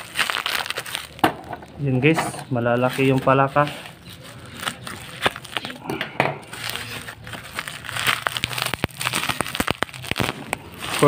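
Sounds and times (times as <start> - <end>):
bubble wrap crinkling and crackling: 0.0 - 11.0.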